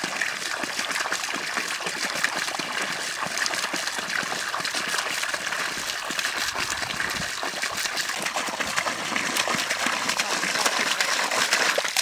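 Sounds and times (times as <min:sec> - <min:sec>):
water gushing from a hose: 0:00.0 - 0:12.0.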